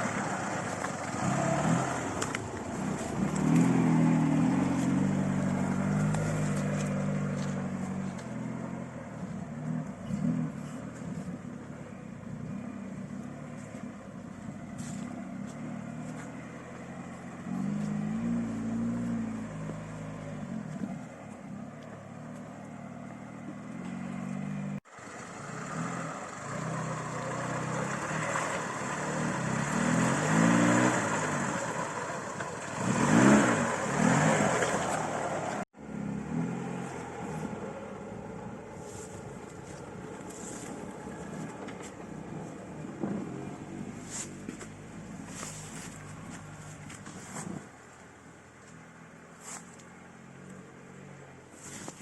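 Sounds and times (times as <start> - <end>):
car engine revving: 0.0 - 11.6, 12.2 - 47.6.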